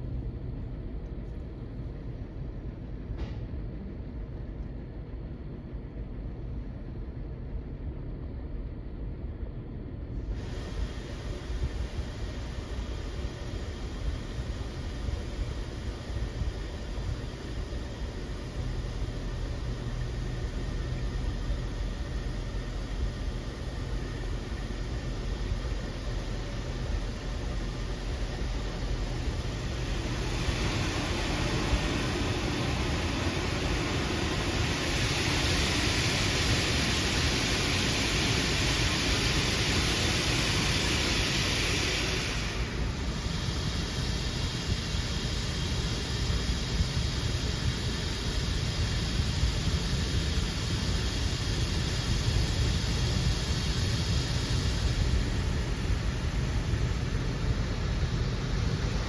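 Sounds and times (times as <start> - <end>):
car wash machine noise: 10.2 - 59.0
hissing water spray: 10.3 - 59.0.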